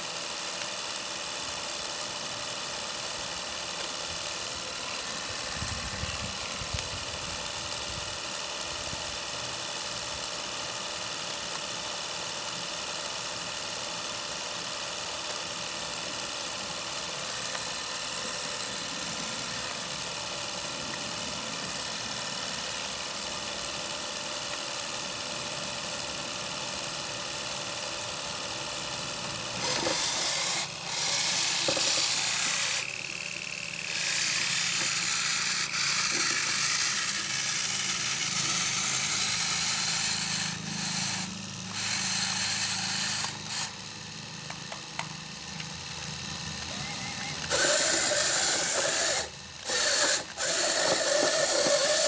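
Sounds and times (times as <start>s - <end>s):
machine motor running: 0.0s - 52.0s.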